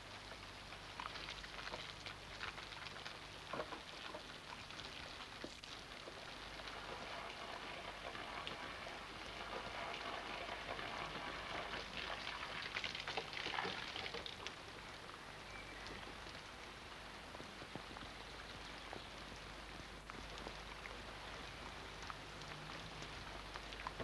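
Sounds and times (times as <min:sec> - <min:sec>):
rain falling: 0:00.0 - 0:24.0
raindrops ticking on surfaces: 0:00.0 - 0:24.0.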